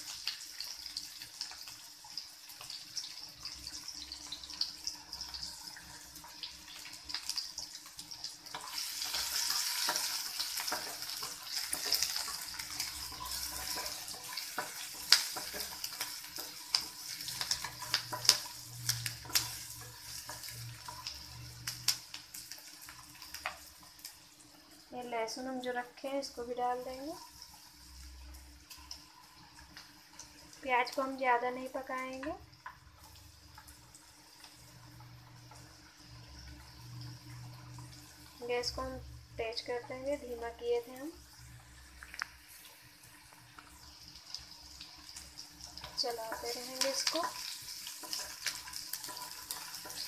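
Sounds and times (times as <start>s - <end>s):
onions sizzling in hot oil: 0.0s - 50.0s.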